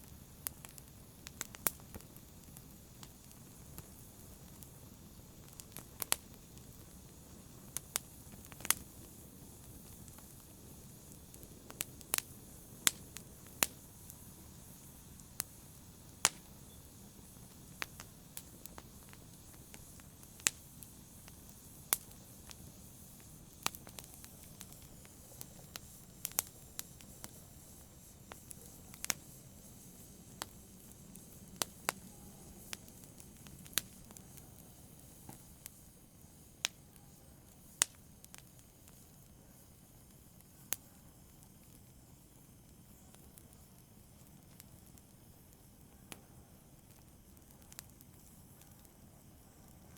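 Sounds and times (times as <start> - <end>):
soft low rumble of flame: 0.0 - 49.9
wood fire popping and snapping: 0.0 - 49.9.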